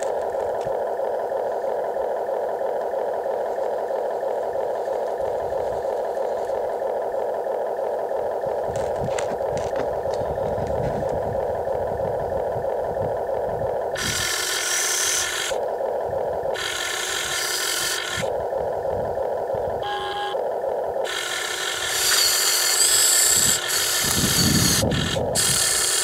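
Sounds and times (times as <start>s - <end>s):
toy excavator motors and gears: 0.0s - 26.0s.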